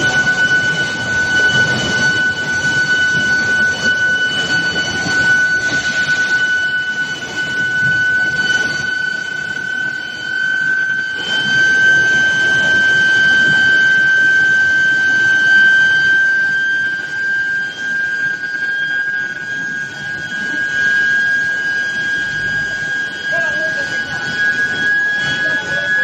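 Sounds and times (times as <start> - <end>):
furnace high-pitched whine: 0.0 - 26.0
machinery noise: 0.0 - 26.0.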